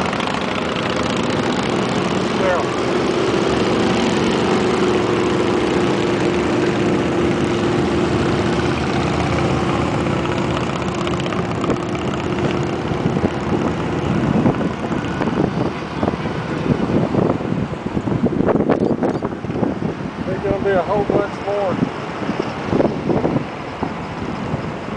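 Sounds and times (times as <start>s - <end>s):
motorcycles and cars passing: 0.0s - 24.9s
wind buffeting microphone: 0.0s - 24.9s.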